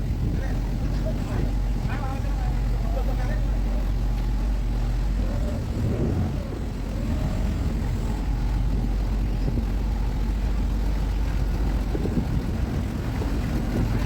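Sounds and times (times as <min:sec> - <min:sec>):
engine low rumble: 0:00.0 - 0:14.0.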